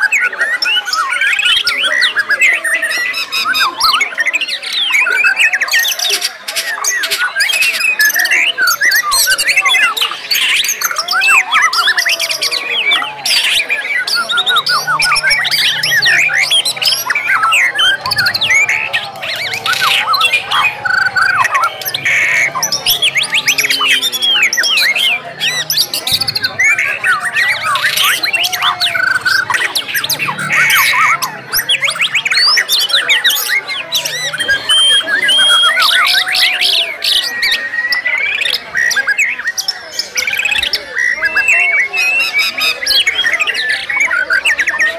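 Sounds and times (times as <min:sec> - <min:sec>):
birds singing: 0:00.0 - 0:44.9.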